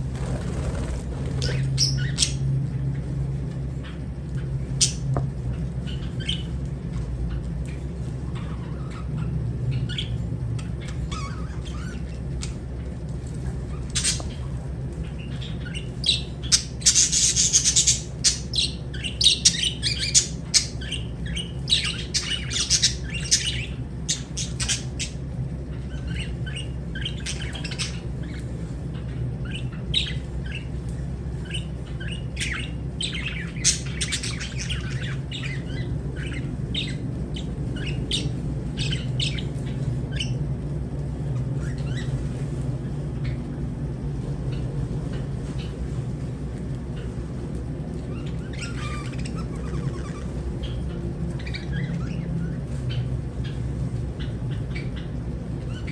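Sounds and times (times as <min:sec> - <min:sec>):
birds chirping and squawking: 0:00.0 - 0:55.9
steady low hum: 0:00.0 - 0:55.9.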